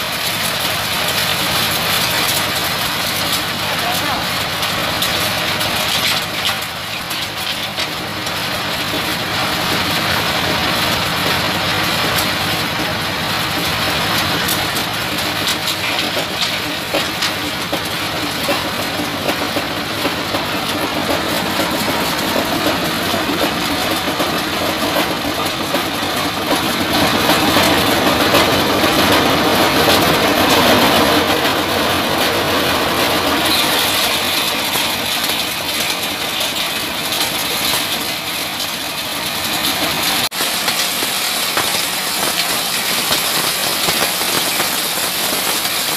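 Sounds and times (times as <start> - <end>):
diesel engine running grinder: 0.0 - 45.9.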